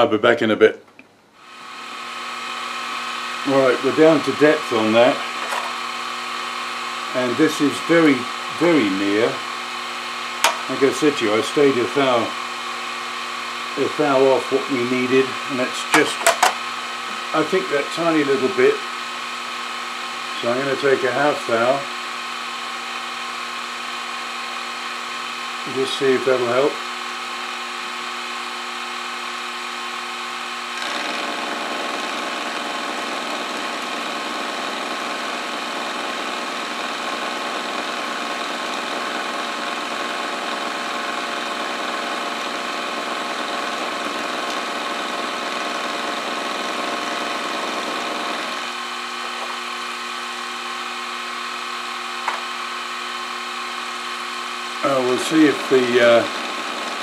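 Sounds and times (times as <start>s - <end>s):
end mill cutting metal: 1.4s - 23.3s, 24.2s - 57.0s
milling spindle motor whine: 1.4s - 57.0s.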